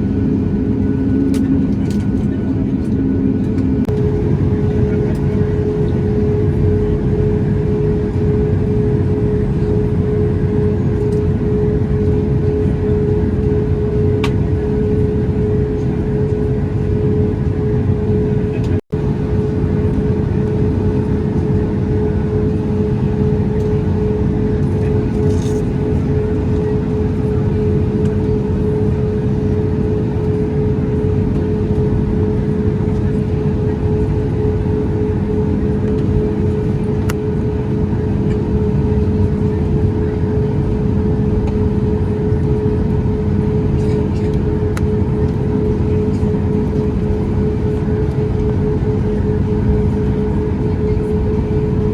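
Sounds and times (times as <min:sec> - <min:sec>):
airplane cabin rumble: 0:00.0 - 0:51.9
engine and airflow rush: 0:00.0 - 0:51.9
steady hum: 0:00.0 - 0:51.9.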